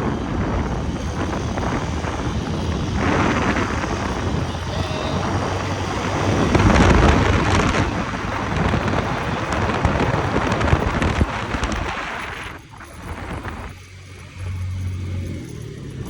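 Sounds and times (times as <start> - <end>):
moped engine running: 0.0 - 16.0
wind buffeting microphone: 0.0 - 16.0.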